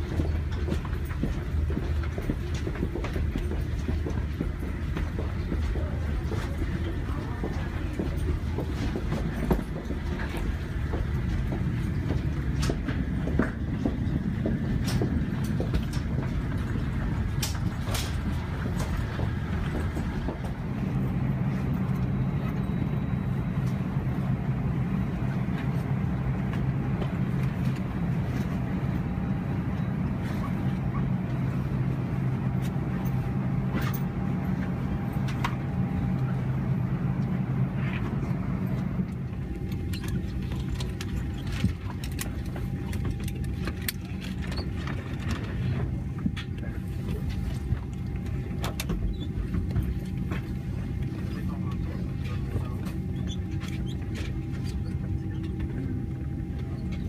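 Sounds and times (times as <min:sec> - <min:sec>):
aircraft cabin hum: 0:00.0 - 0:57.0.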